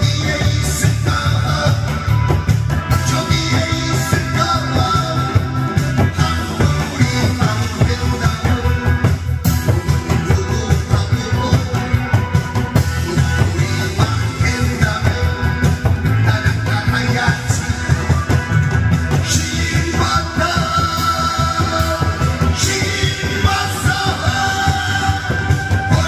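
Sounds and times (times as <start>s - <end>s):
man singing into a microphone: 0.0s - 18.4s, 19.2s - 26.0s
backing track with steady beat: 0.0s - 26.0s.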